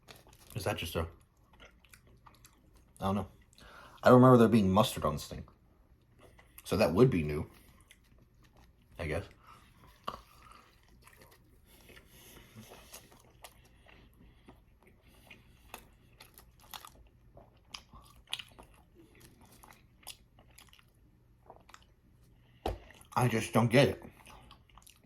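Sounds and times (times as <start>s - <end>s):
person chewing: 0.0s - 4.0s, 5.5s - 6.7s, 7.5s - 23.2s, 24.0s - 25.0s.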